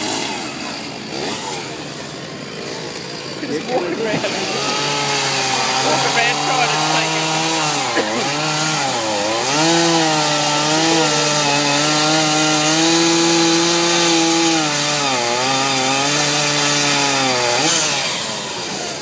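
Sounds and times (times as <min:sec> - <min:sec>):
chainsaw cutting log: 0:00.0 - 0:19.0.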